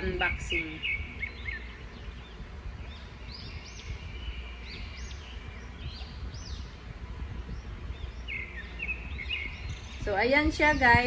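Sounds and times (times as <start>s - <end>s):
birds chirping: 0.0s - 11.0s
low steady rumble: 0.0s - 11.0s.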